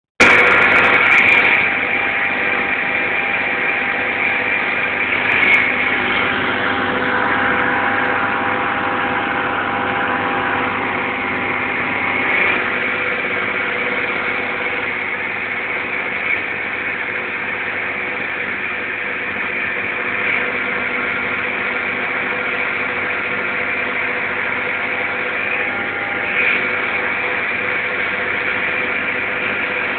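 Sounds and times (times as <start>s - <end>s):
small boat motor running: 0.2s - 29.9s.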